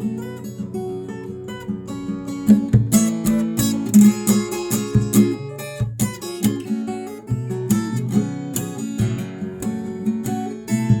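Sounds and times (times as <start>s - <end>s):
fingerstyle acoustic guitar: 0.0s - 11.0s.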